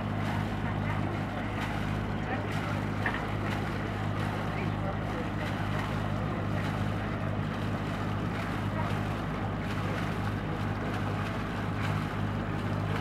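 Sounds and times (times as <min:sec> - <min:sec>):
boat engine idling: 0:00.0 - 0:13.0
exhaust spurting water: 0:00.0 - 0:13.0.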